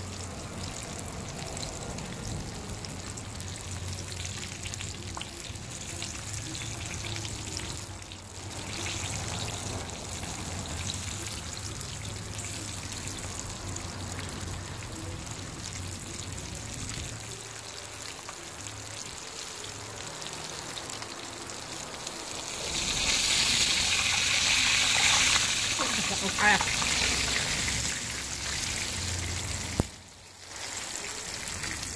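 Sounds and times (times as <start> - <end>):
fish sizzling in hot oil: 0.0 - 31.9.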